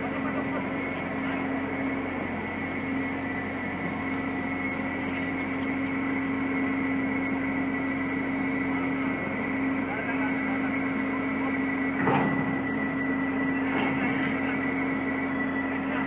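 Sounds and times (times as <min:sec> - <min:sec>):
high machinery whine: 0:00.0 - 0:16.0
ship machinery low drone: 0:00.0 - 0:16.0.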